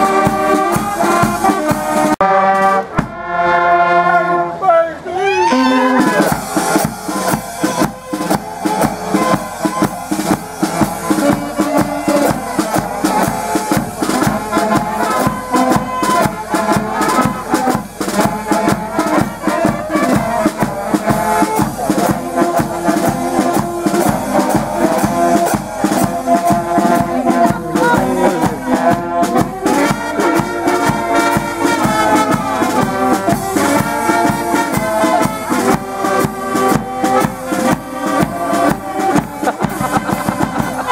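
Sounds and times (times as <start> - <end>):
drum beat: 0.0 - 2.2, 2.9 - 3.3, 5.8 - 40.9
brass band playing: 0.0 - 40.9.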